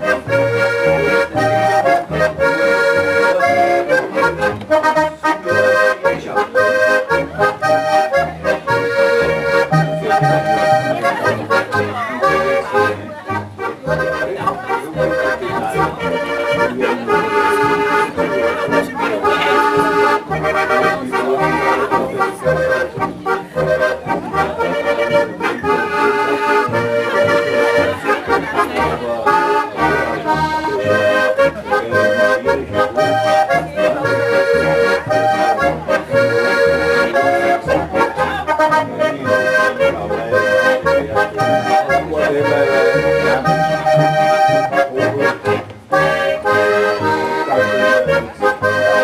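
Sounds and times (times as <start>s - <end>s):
accordion melody: 0.0s - 49.0s
double bass plucking: 0.0s - 49.0s.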